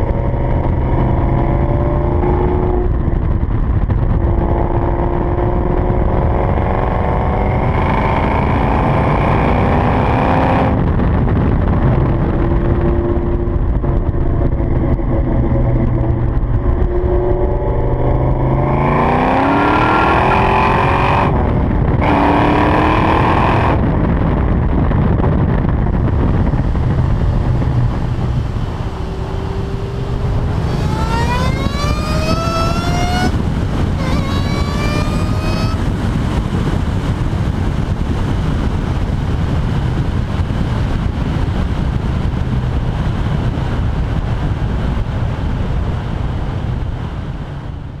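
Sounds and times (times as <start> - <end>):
car exhaust rumble: 0.0 - 48.0
supercharger whine: 0.0 - 48.0.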